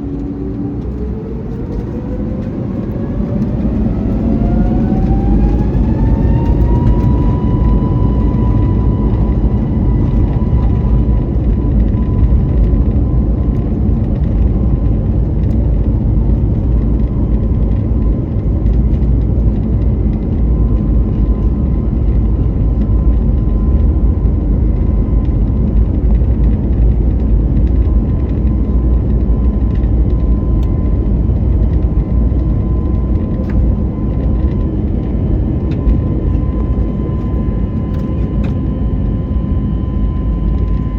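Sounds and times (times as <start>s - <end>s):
jet engine whine: 0.0s - 40.9s
loud constant rumble: 0.0s - 40.9s.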